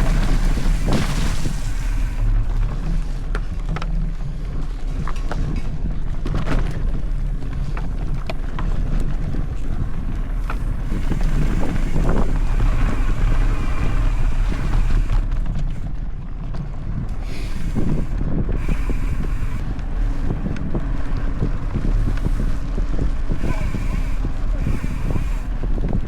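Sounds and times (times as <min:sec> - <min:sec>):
bike clicks and rattles: 0:00.0 - 0:26.0
wind rushing over microphone: 0:00.0 - 0:26.0.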